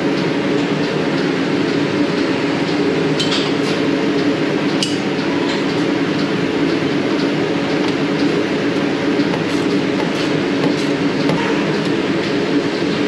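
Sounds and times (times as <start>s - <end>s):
machinery running: 0.0s - 13.0s.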